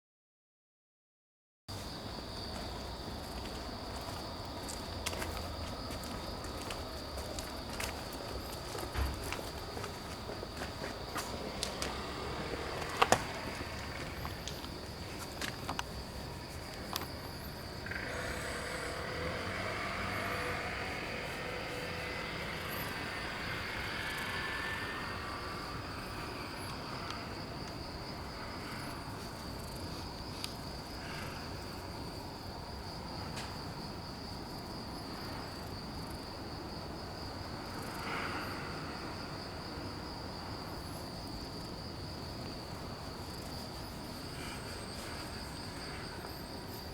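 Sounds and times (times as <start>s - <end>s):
insects trilling: 1.7s - 46.9s.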